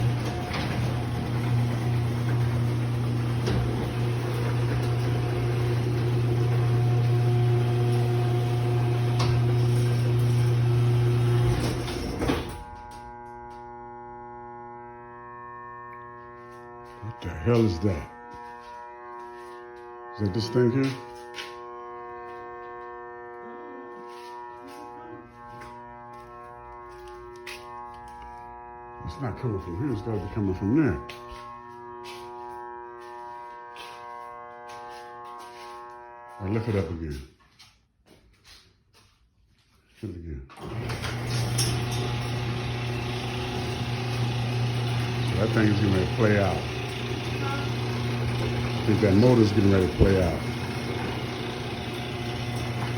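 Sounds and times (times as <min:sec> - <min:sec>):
garage door opener motor humming: 0:00.0 - 0:36.4, 0:40.6 - 0:52.9.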